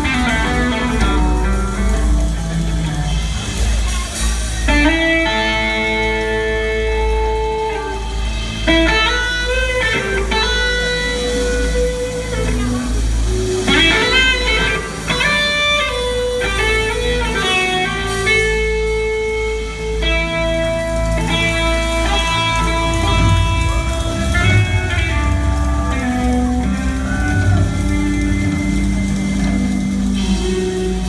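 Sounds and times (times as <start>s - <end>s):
electric guitar bending notes: 0.0s - 31.0s
steady low bass: 0.0s - 31.0s.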